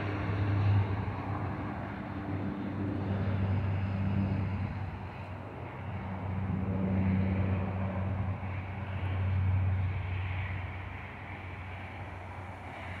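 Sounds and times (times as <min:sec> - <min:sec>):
turboprop airliner climbing: 0:00.0 - 0:13.0.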